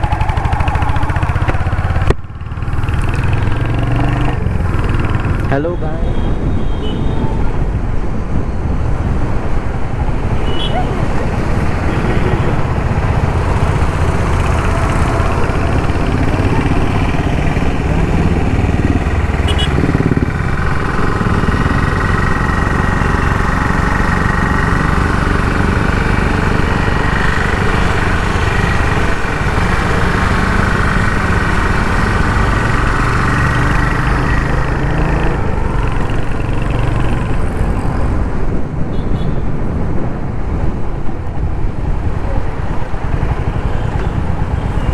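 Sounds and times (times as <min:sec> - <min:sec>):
motorcycle engine running: 0:00.0 - 0:07.8, 0:08.6 - 0:39.3, 0:40.2 - 0:44.9.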